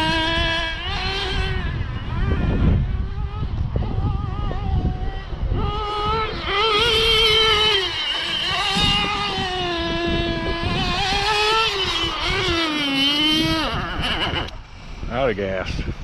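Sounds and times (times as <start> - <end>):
small engine high buzzing: 0.0 - 15.1.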